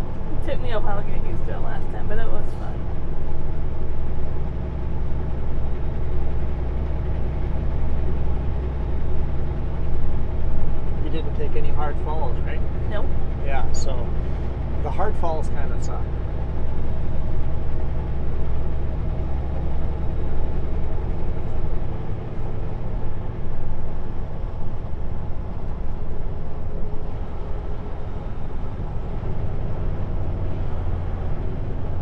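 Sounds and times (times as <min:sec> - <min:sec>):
road noise: 0:00.0 - 0:32.0
truck diesel engine drone: 0:00.0 - 0:32.0.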